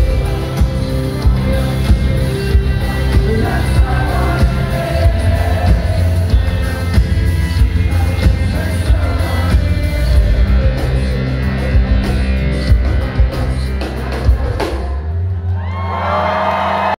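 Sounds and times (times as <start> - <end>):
drum kit: 0.0 - 16.2
bass guitar: 0.0 - 16.9
electric guitars: 0.0 - 16.9.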